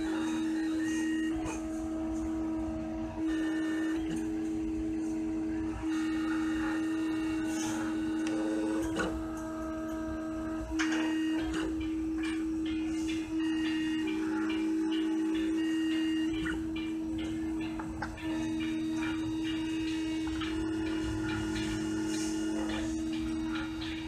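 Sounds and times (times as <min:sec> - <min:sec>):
engraving machine motor whine: 0:00.0 - 0:24.0.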